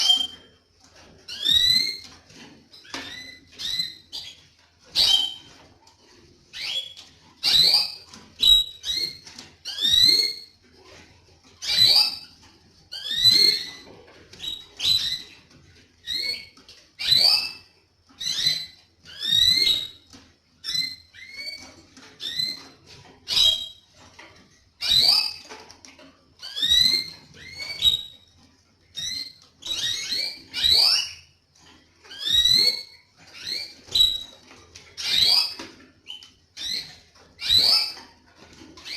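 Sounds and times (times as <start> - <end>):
canaries chirping: 0.0 - 38.9.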